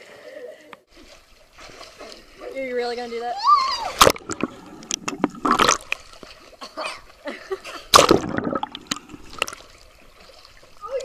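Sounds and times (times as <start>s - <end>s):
muffled underwater splashing: 0.9s - 11.0s.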